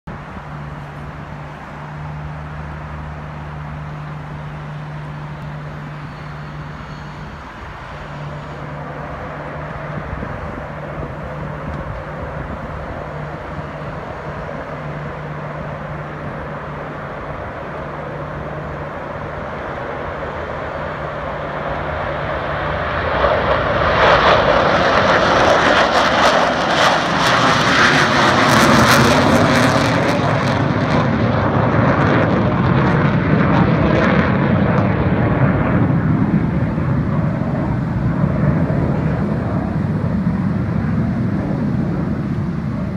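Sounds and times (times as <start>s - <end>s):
fighter jets taking off: 0.1s - 42.9s
steady low hum: 0.1s - 42.9s.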